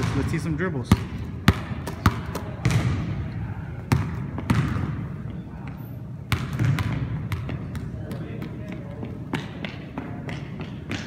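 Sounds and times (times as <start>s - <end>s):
basketball bouncing on wooden floor: 0.0s - 3.1s, 3.9s - 5.0s, 6.3s - 11.0s.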